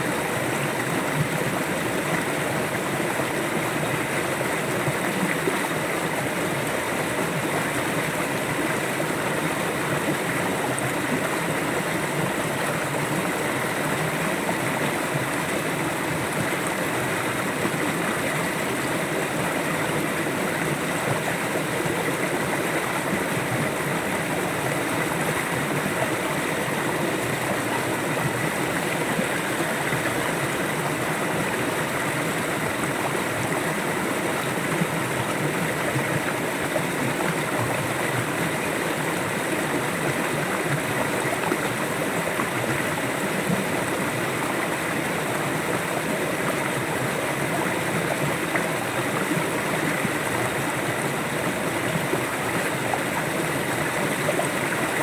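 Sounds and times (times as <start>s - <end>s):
river water rushing and gurgling: 0.0s - 55.0s.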